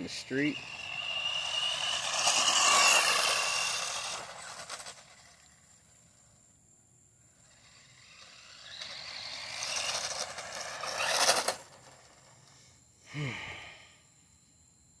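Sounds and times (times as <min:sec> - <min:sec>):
toy car motor and tyre noise: 0:00.0 - 0:06.6, 0:07.2 - 0:12.6
driving noise with falling tone: 0:00.0 - 0:12.8.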